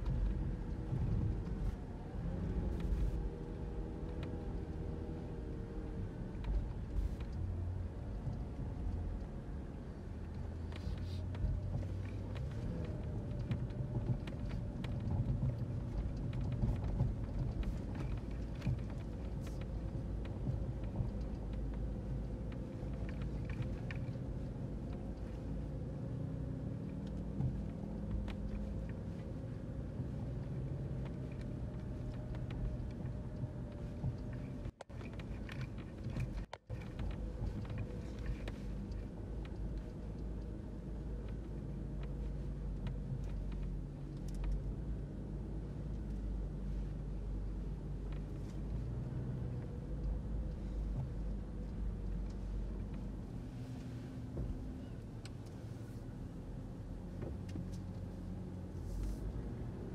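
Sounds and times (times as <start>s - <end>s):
car engine: 0.0s - 59.9s
road rumble: 0.0s - 59.9s.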